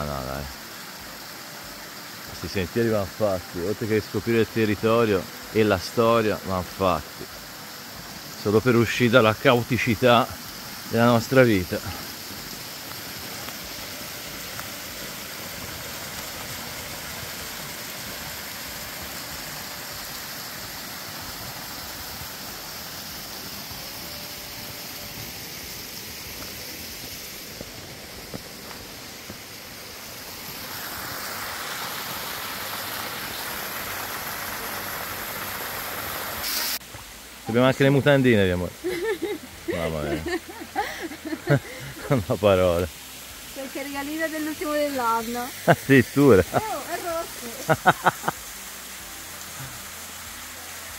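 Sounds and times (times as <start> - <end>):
stream rushing over small falls: 0.0 - 50.9.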